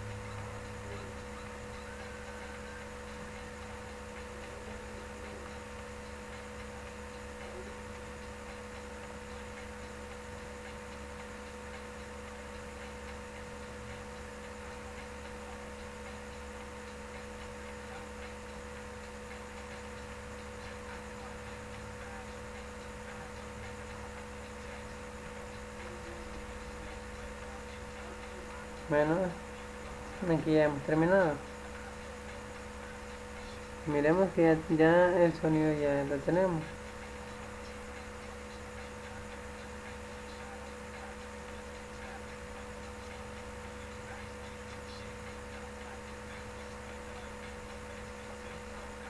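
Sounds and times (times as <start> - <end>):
electrical hum and hiss: 0.0 - 49.0.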